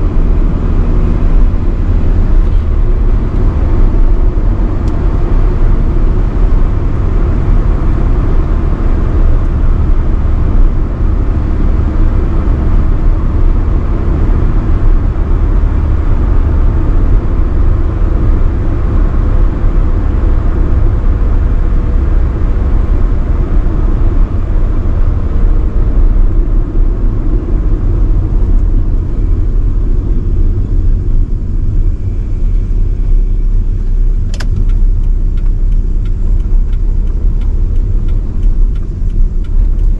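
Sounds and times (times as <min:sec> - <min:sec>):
car driving at speed: 0:00.0 - 0:39.9.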